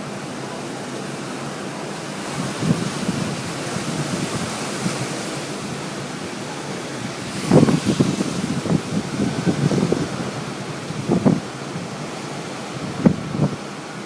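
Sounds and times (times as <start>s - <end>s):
strong storm wind rushing: 2.1s - 14.0s
wind buffeting microphone: 2.2s - 14.0s.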